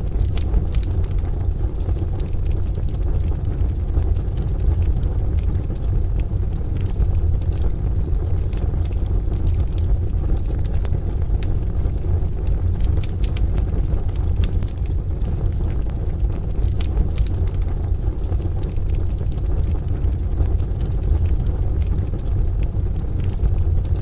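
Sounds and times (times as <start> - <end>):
wood fire crackling in a stove: 0.0 - 24.0.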